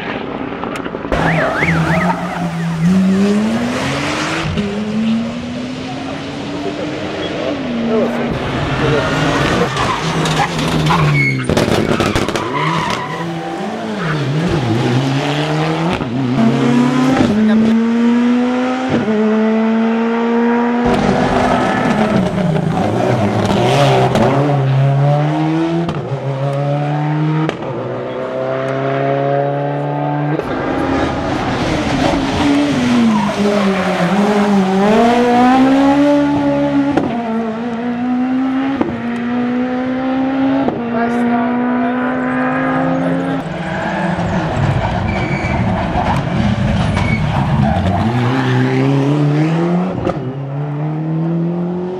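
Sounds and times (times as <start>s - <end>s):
rally car engines accelerating: 0.0s - 51.9s.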